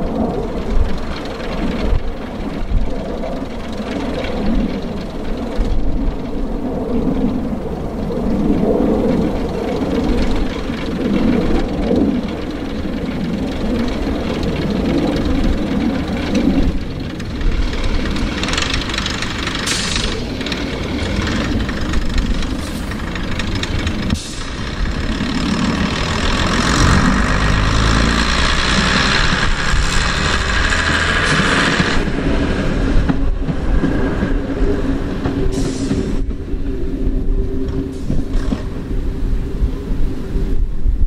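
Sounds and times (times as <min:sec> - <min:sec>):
diesel railcar engines idling: 0:00.0 - 0:40.3.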